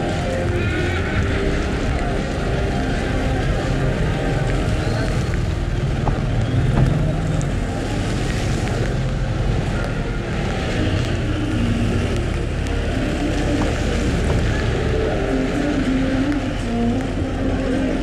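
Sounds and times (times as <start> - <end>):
car engine and road rumble: 0.0 - 18.0
tyres hissing on wet road: 0.0 - 18.0.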